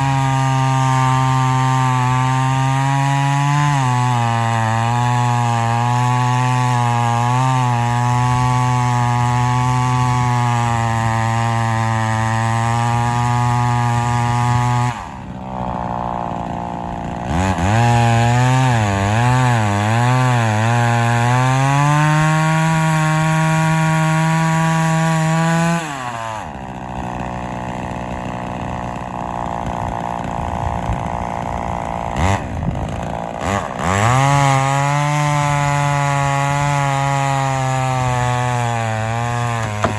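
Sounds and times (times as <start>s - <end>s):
chainsaw cutting: 0.0s - 39.9s.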